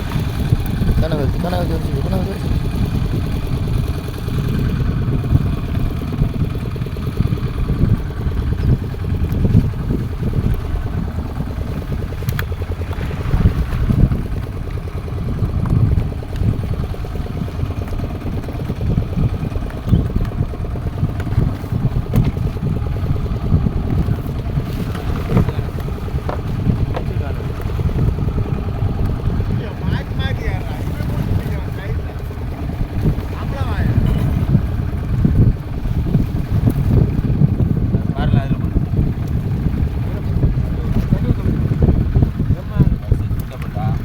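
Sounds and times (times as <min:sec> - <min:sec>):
boat engine running: 0:00.0 - 0:44.0
uneven low rumble: 0:00.0 - 0:44.0.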